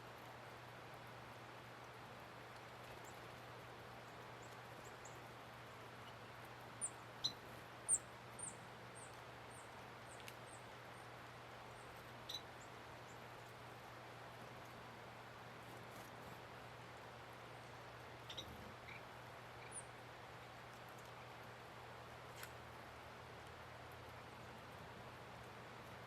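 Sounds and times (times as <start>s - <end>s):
faint steady hiss: 0.0s - 26.0s
small birds chip calls: 1.4s - 22.7s.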